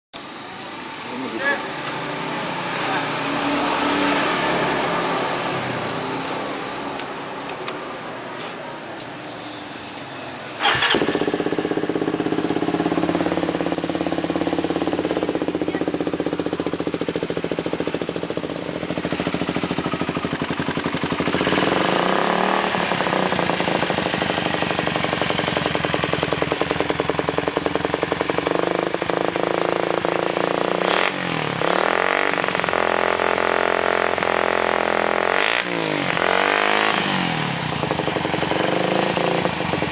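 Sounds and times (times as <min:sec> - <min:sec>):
motorcycle engine idling and revving: 0:00.1 - 0:39.9.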